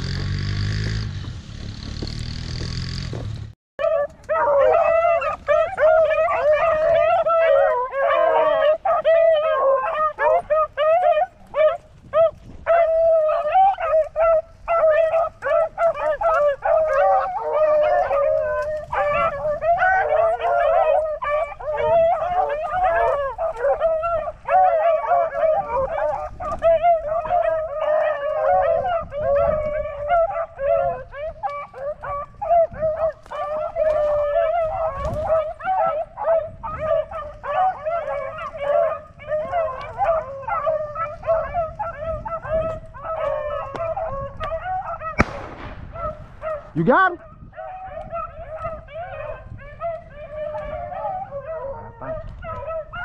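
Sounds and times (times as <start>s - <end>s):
hounds baying: 3.3s - 53.0s.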